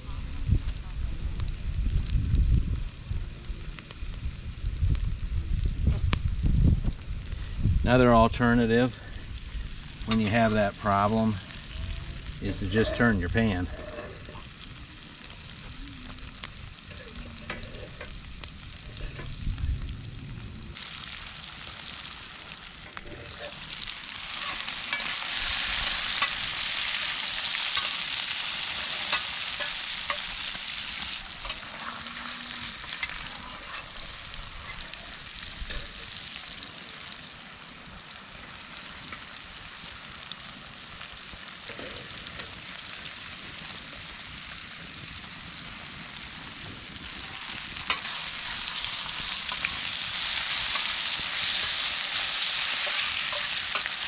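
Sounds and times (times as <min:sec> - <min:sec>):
meat and peppers sizzling in pans: 0:00.0 - 0:54.0.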